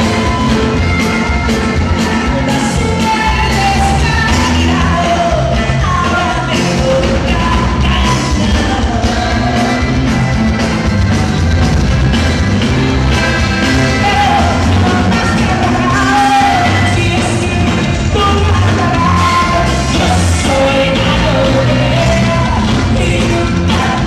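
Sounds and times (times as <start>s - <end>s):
person singing: 0.0s - 10.3s, 13.7s - 24.0s
band playing loud music: 0.0s - 24.0s.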